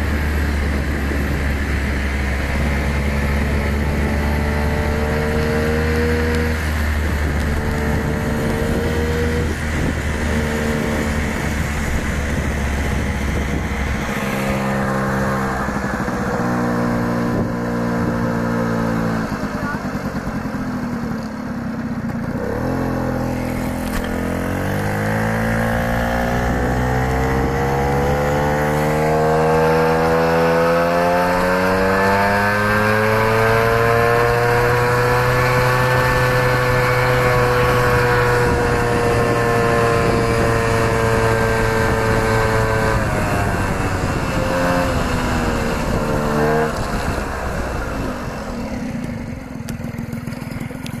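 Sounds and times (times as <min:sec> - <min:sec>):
moped engine accelerating: 0:00.0 - 0:51.0.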